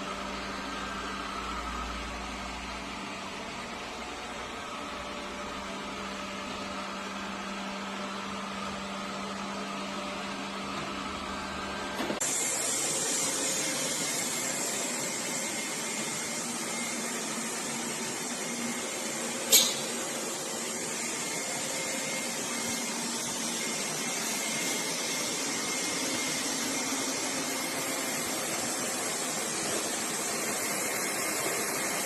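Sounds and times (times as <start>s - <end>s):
robot vacuum cleaner hum: 0.0s - 32.0s.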